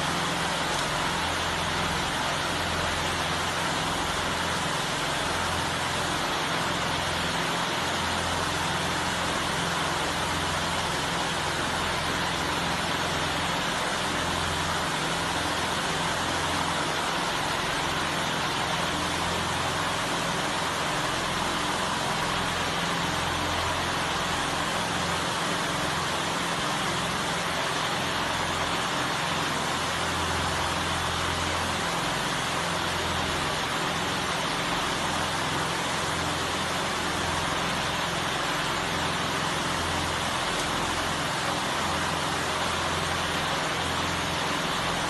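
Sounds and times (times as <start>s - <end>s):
fans whirring with low hum: 0.0s - 45.0s.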